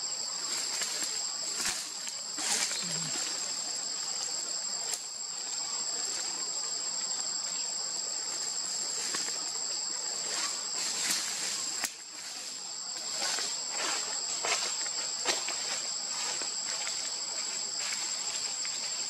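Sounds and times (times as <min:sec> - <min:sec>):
insect chorus buzzing: 0:00.0 - 0:19.0.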